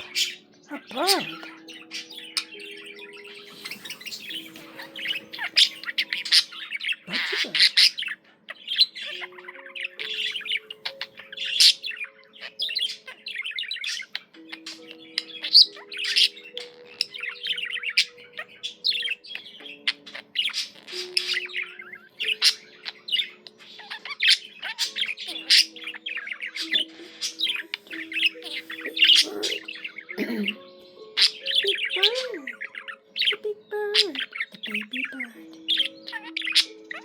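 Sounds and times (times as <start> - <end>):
budgerigar warbling and chattering: 0.0 - 37.0.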